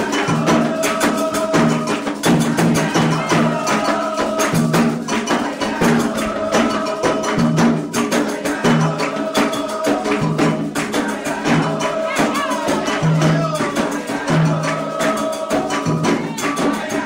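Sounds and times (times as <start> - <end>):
bell or shaker strikes: 0.0 - 17.0
chanting: 0.0 - 17.0
hand drums playing fast rhythm: 0.0 - 17.0.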